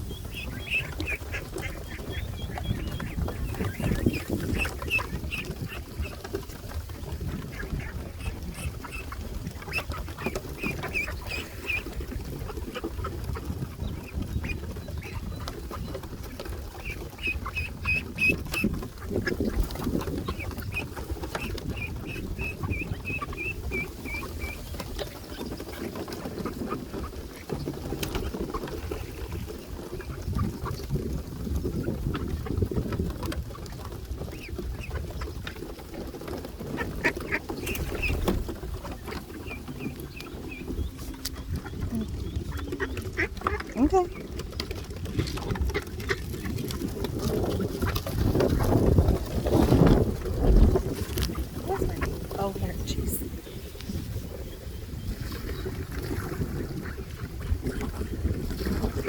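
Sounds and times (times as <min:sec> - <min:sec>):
ducks calling: 0:00.0 - 0:30.8, 0:34.2 - 0:54.6.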